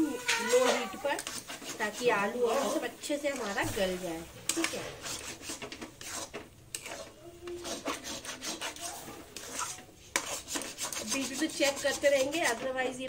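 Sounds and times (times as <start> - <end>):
wooden spatula scraping a pan: 0.0 - 13.0.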